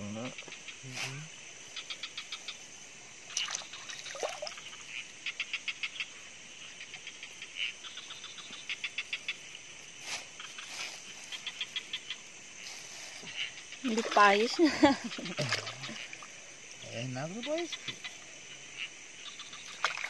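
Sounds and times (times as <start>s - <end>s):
high insect hum: 0.0s - 20.0s.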